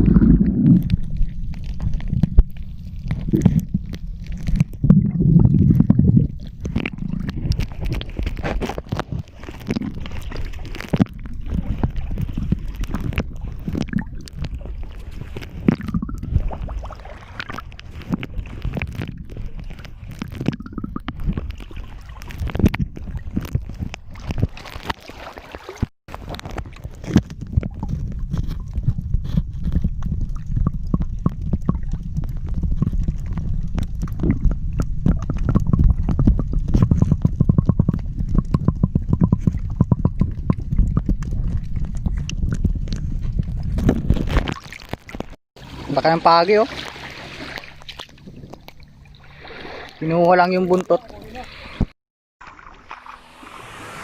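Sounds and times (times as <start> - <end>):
underwater clicks and knocks: 0.0 - 25.1, 25.8 - 45.4
underwater rumbling and gurgles: 0.0 - 54.0.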